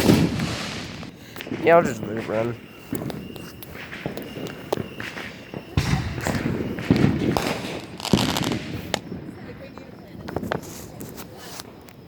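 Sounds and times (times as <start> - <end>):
fireworks thumps: 0.0 - 11.4.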